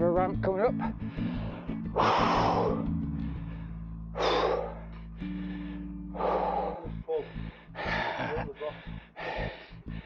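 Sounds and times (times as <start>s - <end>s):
music with low sustained tones: 0.0s - 10.0s
person panting heavily: 0.9s - 10.0s.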